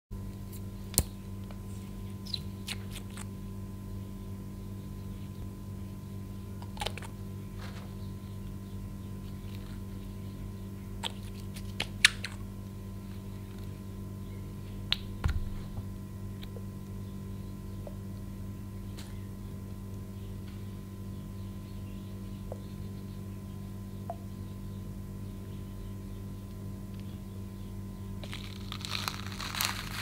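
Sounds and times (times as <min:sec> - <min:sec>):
low electrical hum: 0:00.1 - 0:30.0.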